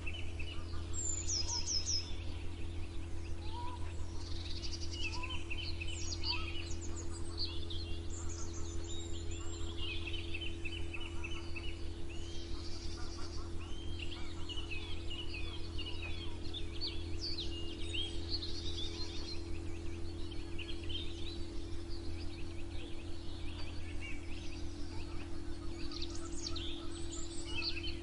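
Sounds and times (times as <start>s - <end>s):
songbirds chirping and trilling: 0.0s - 28.0s
steady low hum: 0.0s - 28.0s.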